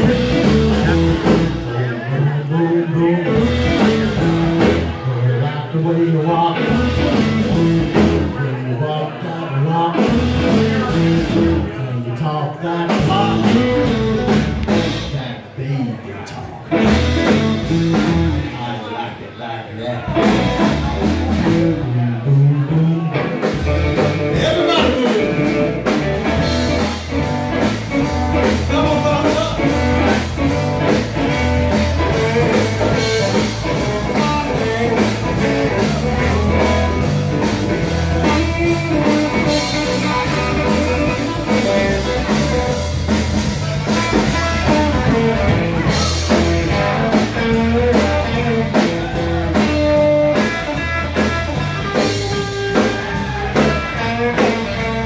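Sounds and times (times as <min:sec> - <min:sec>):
drum kit beat: 0:00.0 - 0:01.8, 0:03.2 - 0:05.0, 0:06.5 - 0:08.4, 0:09.9 - 0:11.7, 0:12.9 - 0:15.2, 0:16.7 - 0:18.5, 0:20.1 - 0:22.0, 0:23.1 - 0:55.0
electric guitar: 0:00.0 - 0:15.2, 0:16.2 - 0:18.7, 0:20.0 - 0:55.0
bass guitar: 0:00.0 - 0:55.0.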